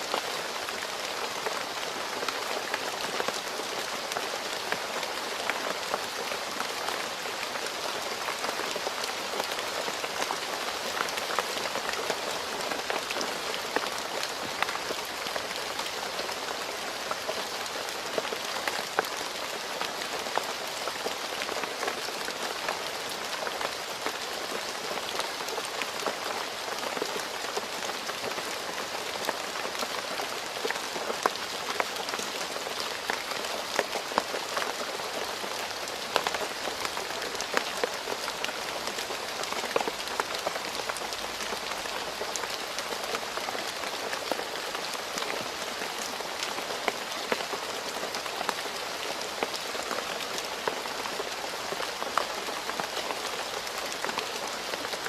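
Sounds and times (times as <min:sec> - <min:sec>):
rain falling on a road: 0:00.0 - 0:55.0.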